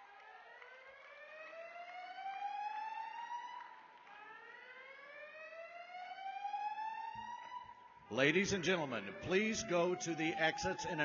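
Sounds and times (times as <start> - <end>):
fire alarm whoop: 0.0 - 11.0.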